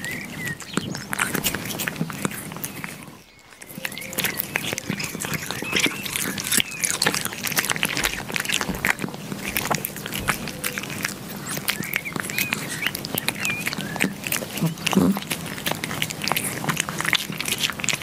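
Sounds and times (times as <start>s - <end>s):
kittens chewing wetly: 0.0s - 18.0s.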